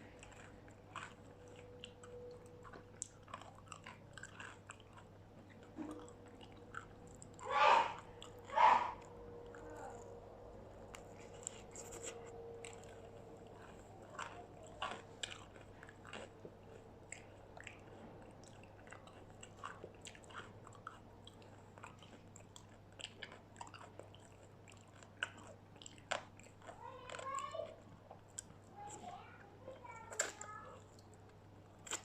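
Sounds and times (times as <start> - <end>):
crunchy chewing of fried food: 0.0 - 32.0.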